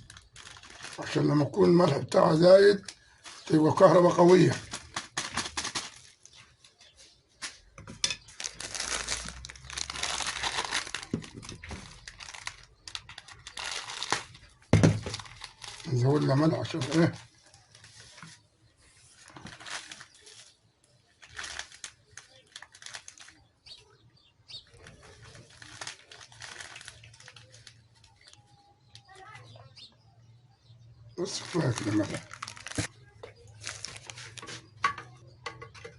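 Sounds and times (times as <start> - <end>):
plastic bag crinkling: 0.0 - 7.0, 8.2 - 23.8, 24.6 - 29.4, 31.2 - 34.8.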